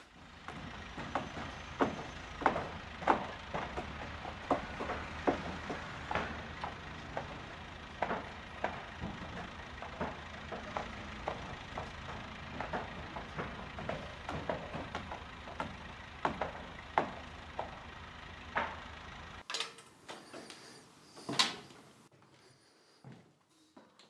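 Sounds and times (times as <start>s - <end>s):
steel tubes clanking: 0.0s - 21.8s.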